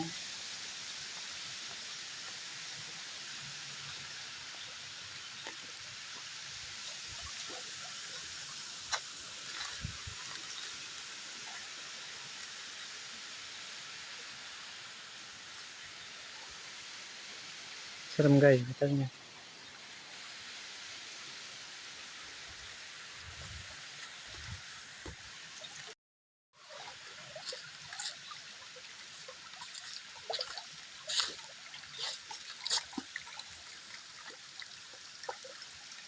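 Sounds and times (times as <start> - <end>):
waterfall and stream rushing: 0.0 - 25.9, 26.7 - 36.0.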